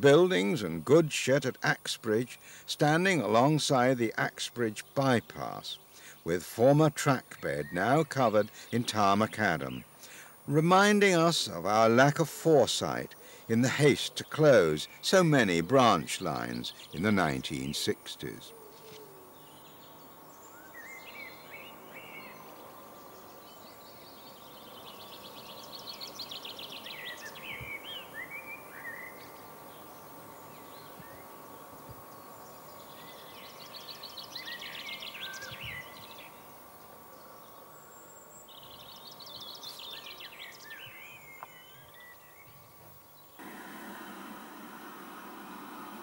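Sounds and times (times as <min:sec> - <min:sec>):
faint hiss and hum: 0:00.0 - 0:46.0
songbird singing: 0:00.0 - 0:46.0.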